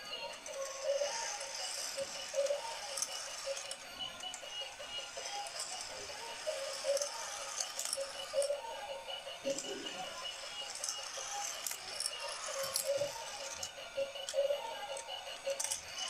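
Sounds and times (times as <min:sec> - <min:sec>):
toy motor whirring: 0:00.0 - 0:16.0
toy cars clicking on plastic track: 0:00.1 - 0:08.6, 0:09.5 - 0:16.0.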